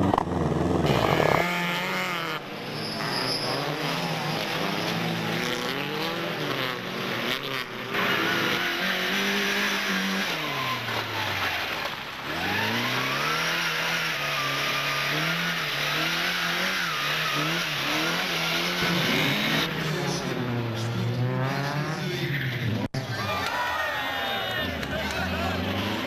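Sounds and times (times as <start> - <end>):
rally car engine accelerating: 0.0 - 23.1, 24.5 - 26.0.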